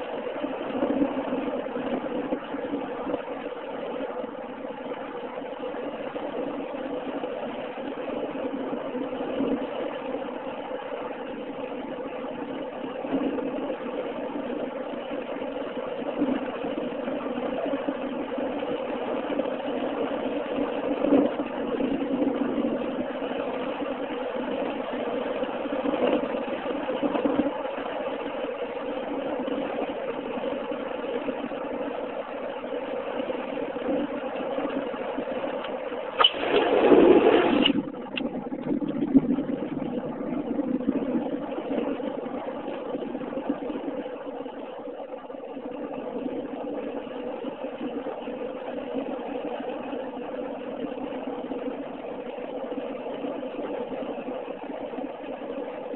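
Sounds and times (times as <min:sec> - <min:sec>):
car engine and road noise: 0:00.0 - 0:55.9.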